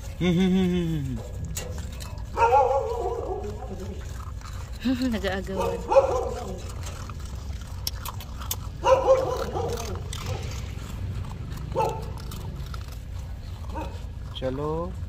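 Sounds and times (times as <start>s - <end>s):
puppies whining: 0.0s - 14.4s.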